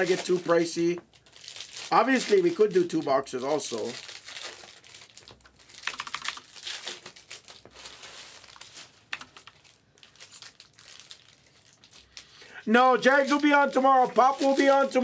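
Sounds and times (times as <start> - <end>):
wrappers crinkling and rustling: 0.0 - 15.0.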